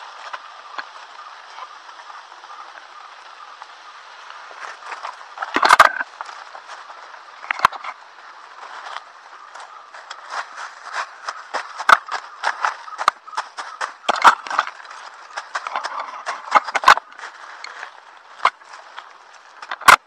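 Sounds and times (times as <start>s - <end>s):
footsteps crunching through dry leaves: 0.0s - 20.0s
brushing past dry stalks: 3.5s - 20.0s.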